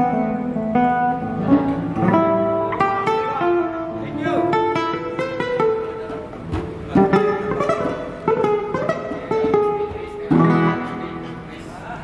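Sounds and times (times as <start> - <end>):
guitar notes and chords: 0.0 - 12.0.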